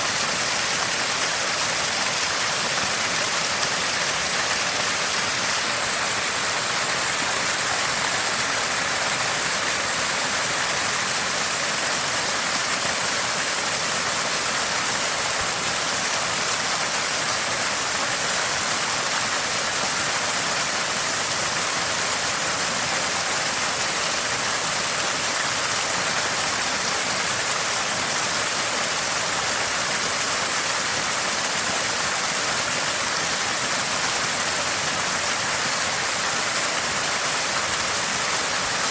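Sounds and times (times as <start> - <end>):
spring water gurgling and splashing: 0.0 - 38.9.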